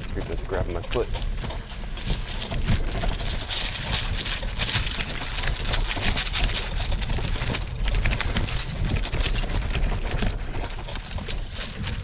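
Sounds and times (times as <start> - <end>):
bicycle tyres rumbling on rough ground: 0.0 - 12.0
dry brush scraping against bicycle: 0.0 - 12.0.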